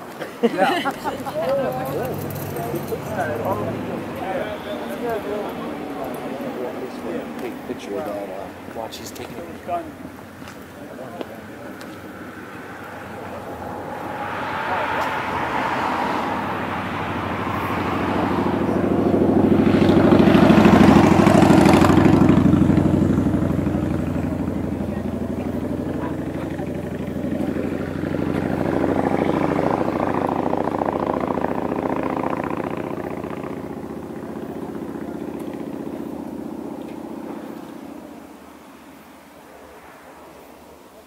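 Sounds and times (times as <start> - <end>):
vehicles passing by: 0.0 - 41.0.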